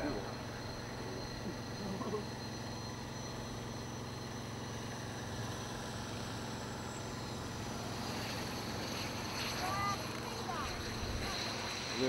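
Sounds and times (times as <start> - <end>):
jet engine whine: 0.0 - 12.0.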